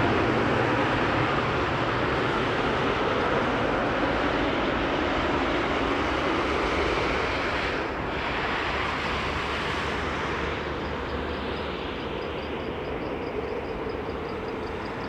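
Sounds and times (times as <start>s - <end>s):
jet airliner roar: 0.0s - 15.0s.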